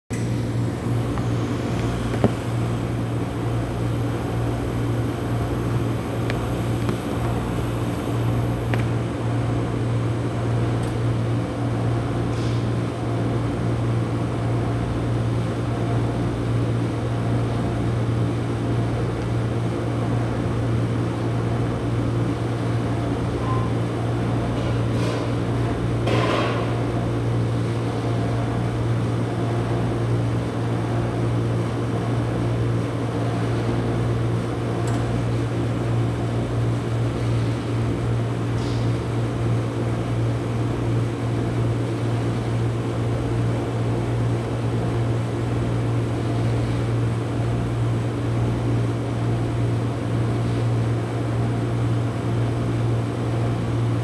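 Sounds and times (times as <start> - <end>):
refrigeration compressor humming: 0.1 - 54.0.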